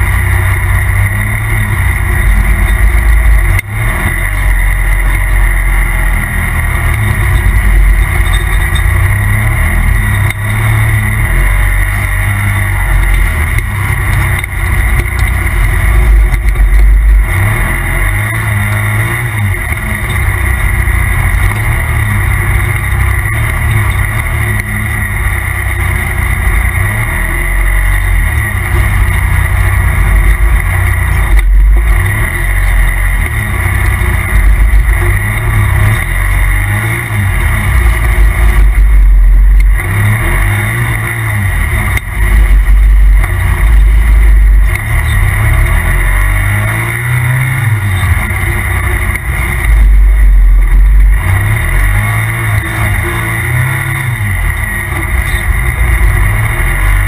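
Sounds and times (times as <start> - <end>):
off-road vehicle engine rumbling: 0.0 - 57.0.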